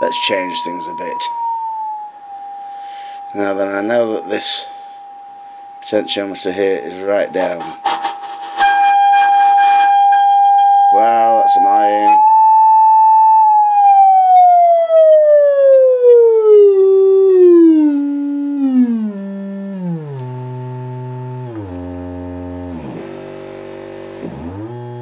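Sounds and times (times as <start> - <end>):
test tone sweeping down: 0.0 - 7.8, 8.6 - 25.0.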